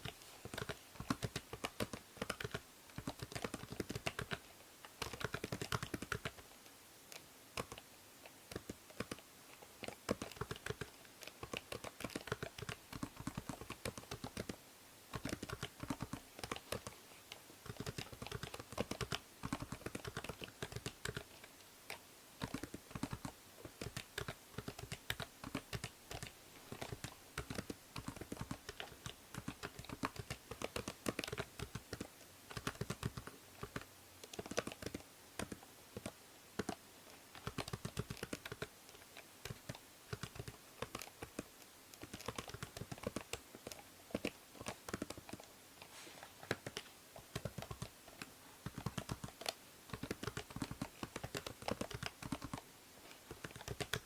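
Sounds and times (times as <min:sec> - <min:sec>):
computer keyboard typing: 0:00.0 - 0:06.5, 0:07.1 - 0:07.8, 0:08.5 - 0:09.2, 0:09.8 - 0:17.0, 0:17.6 - 0:45.5, 0:46.4 - 0:54.0
steady microphone hiss: 0:00.0 - 0:54.0.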